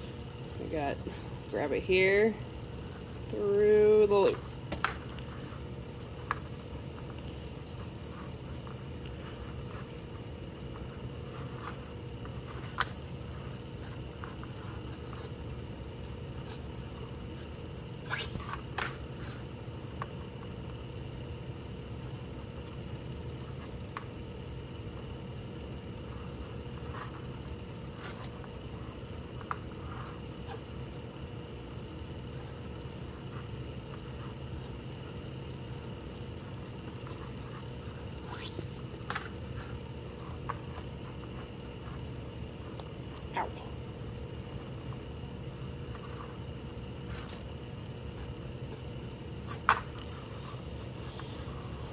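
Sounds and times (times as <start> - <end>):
steady low hum: 0.0 - 51.9
cord scraping and rustling: 2.8 - 20.9, 21.7 - 43.3, 44.4 - 51.9.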